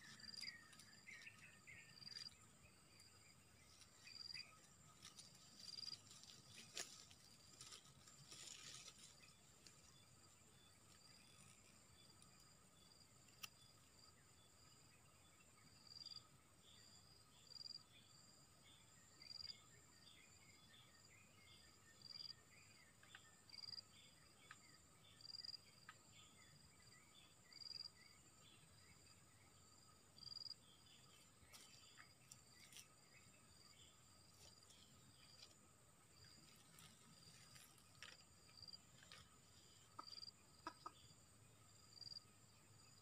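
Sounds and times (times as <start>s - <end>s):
insect chirps: 0.0s - 43.0s
insects buzzing: 0.0s - 43.0s.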